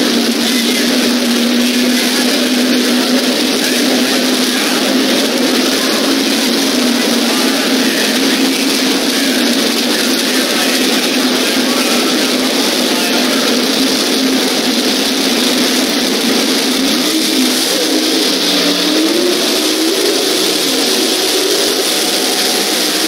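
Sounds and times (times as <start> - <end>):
engine revving: 0.0 - 23.0
race car engines running: 0.0 - 23.0.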